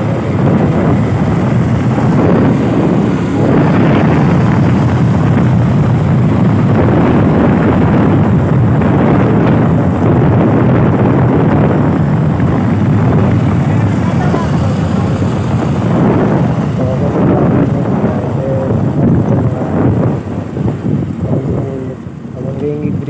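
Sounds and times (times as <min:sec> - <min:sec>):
motorcycle engine running: 0:00.0 - 0:23.0
wind rushing over microphone: 0:00.0 - 0:23.0.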